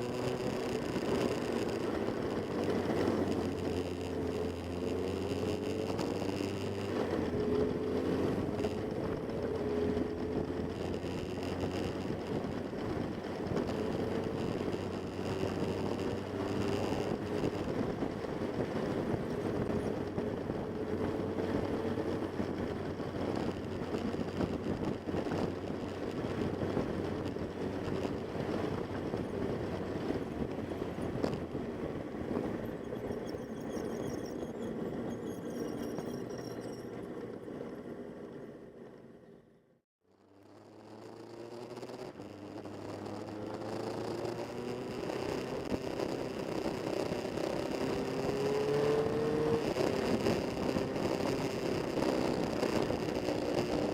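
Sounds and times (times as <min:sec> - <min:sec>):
motorcycle engine running: 0:00.0 - 0:53.9
road and wind noise: 0:00.0 - 0:53.9.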